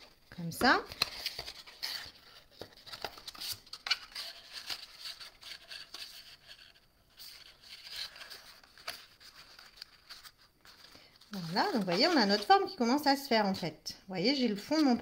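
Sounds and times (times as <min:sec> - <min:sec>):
cardstock rustling: 0:00.6 - 0:12.8.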